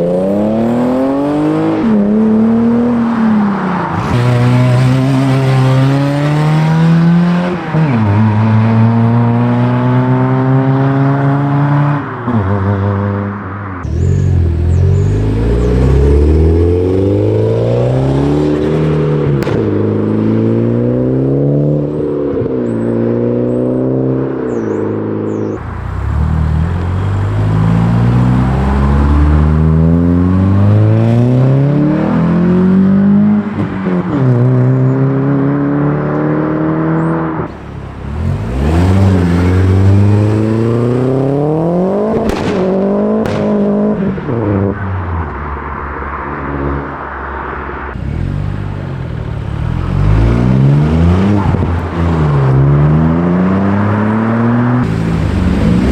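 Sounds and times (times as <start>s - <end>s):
car engines accelerating: 0.0s - 55.9s.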